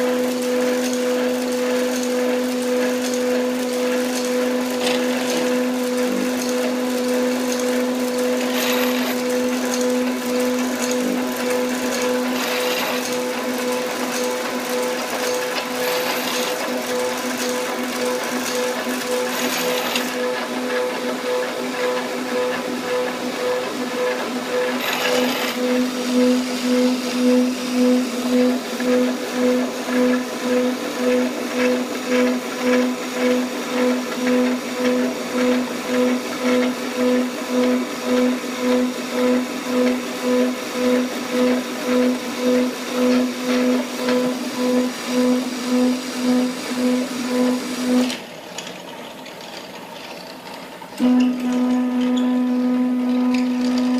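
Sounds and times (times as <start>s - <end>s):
electric motor pulsing hum: 0.0s - 48.5s, 51.0s - 53.9s.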